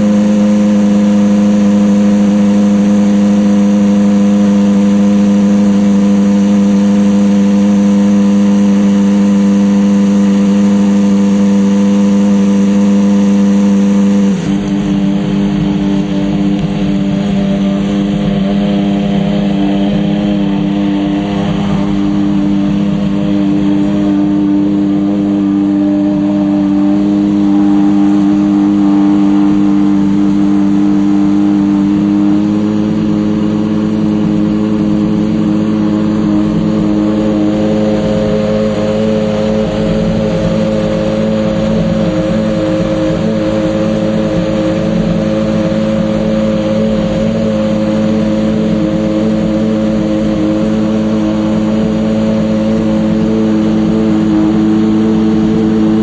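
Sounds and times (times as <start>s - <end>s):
race car engine idling: 0.0s - 56.0s.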